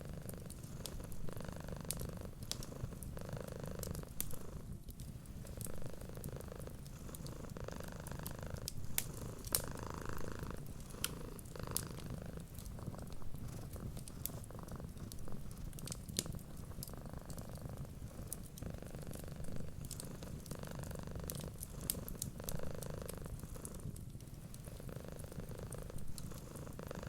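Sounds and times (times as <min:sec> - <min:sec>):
cat purring: 0:00.0 - 0:27.0
wood fire crackling: 0:00.0 - 0:27.0.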